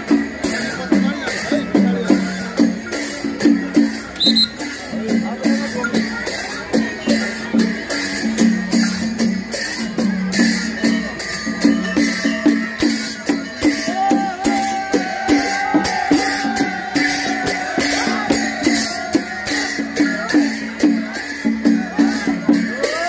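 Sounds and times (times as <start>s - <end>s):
crowd voices: 0.0s - 23.0s
cymbals clashing: 0.0s - 23.0s.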